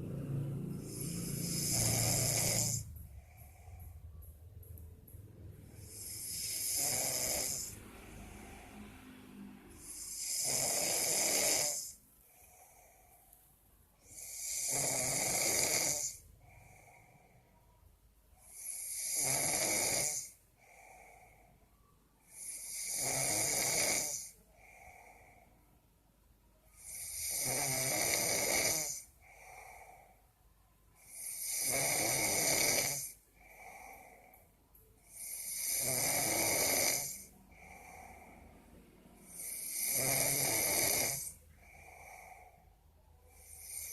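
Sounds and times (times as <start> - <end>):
person snoring: 0.0 - 4.8, 5.6 - 13.2, 14.0 - 17.4, 18.4 - 21.6, 22.2 - 25.6, 26.8 - 30.2, 31.0 - 34.4, 35.0 - 43.9
faint breathing: 0.0 - 10.6, 11.6 - 14.7, 15.9 - 19.0, 20.1 - 22.8, 24.1 - 27.3, 28.8 - 31.4, 32.2 - 35.6, 36.2 - 43.9.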